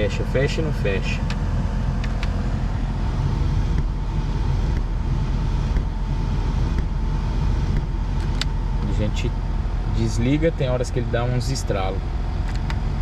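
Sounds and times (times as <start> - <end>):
car air conditioning fan humming: 0.0 - 13.0.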